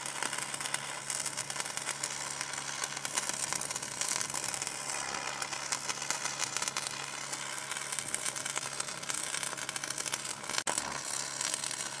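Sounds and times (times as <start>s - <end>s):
electric crackling and sizzling: 0.0s - 12.0s.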